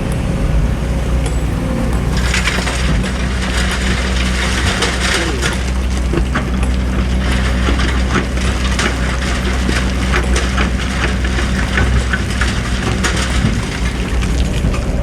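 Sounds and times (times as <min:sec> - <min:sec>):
diesel engine running: 0:00.0 - 0:15.0
bucket scraping sand and stones: 0:00.7 - 0:15.0.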